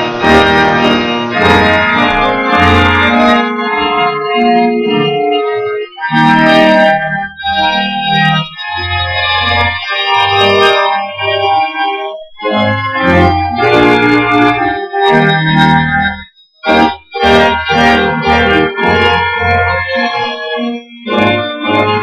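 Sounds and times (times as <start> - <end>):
church organ playing chords: 0.0 - 22.0.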